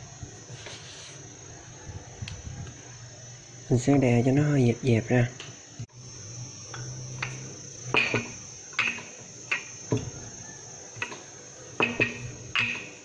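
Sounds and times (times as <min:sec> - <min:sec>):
steady high-pitched whine: 0:00.0 - 0:13.0.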